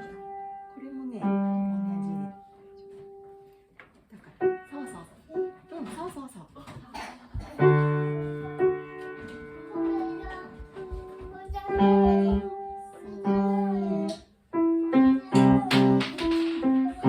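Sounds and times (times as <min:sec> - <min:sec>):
piano playing simple piece: 0:00.0 - 0:03.8, 0:04.4 - 0:05.8, 0:07.6 - 0:17.0.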